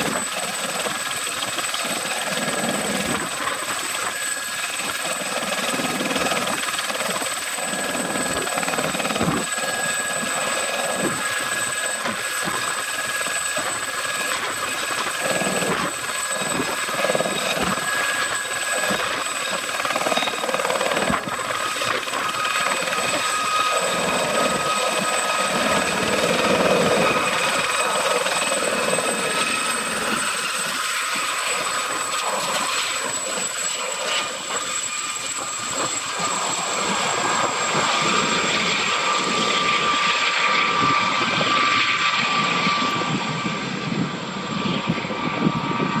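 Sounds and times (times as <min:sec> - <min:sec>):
helicopter rotor noise: 0:00.0 - 0:46.0
high turbine whine: 0:00.0 - 0:46.0.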